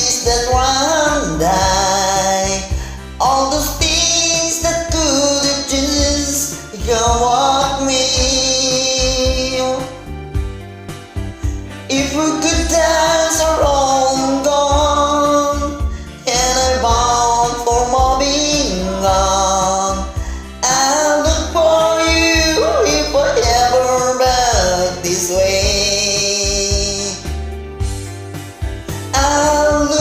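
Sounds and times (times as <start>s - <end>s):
karaoke backing track: 0.0s - 30.0s
person singing slow melody: 0.0s - 30.0s.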